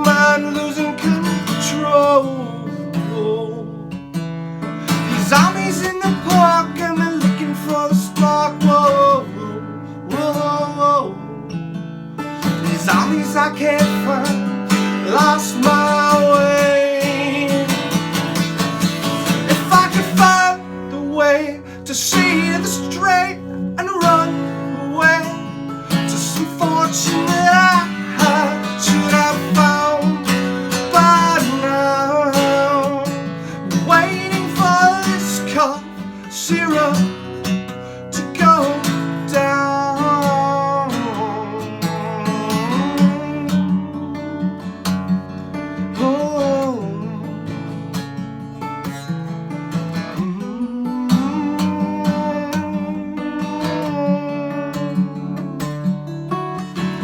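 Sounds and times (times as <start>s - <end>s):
person singing: 0.0s - 3.8s, 4.9s - 11.6s, 12.3s - 37.3s, 38.1s - 44.6s, 46.0s - 47.4s, 50.0s - 57.0s
acoustic guitar strumming: 0.0s - 57.0s.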